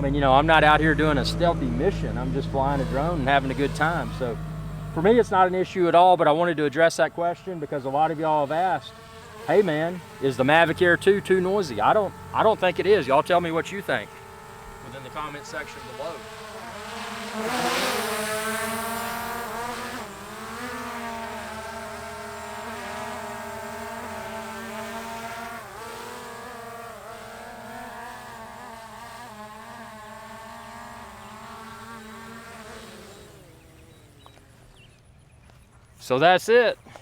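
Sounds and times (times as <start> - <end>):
drone propellers buzzing: 0.0 - 35.1.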